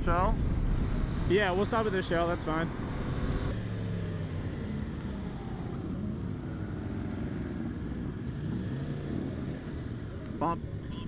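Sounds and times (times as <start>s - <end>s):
motorcycle engines running: 0.0s - 11.0s
road and wind noise: 0.0s - 11.0s.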